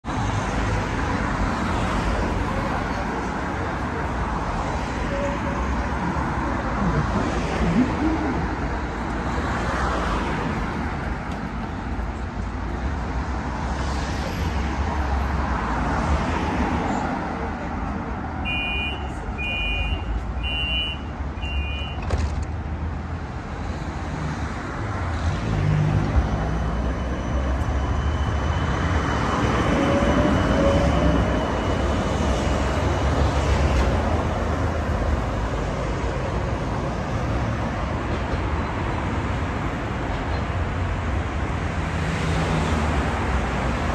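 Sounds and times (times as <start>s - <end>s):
street traffic: 0.0s - 43.9s
tram noise: 0.1s - 43.9s.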